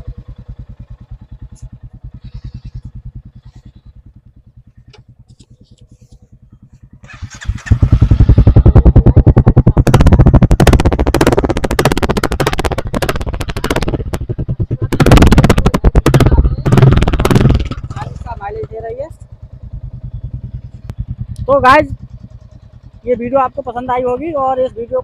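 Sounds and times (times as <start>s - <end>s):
motorcycle engine idling: 0.0s - 25.0s
loud uneven exhaust pulses: 1.6s - 23.7s.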